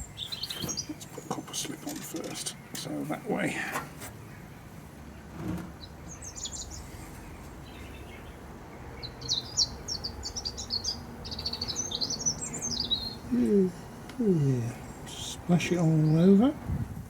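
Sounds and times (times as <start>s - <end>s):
small bird chirping and twittering: 0.0s - 4.8s, 5.7s - 16.8s.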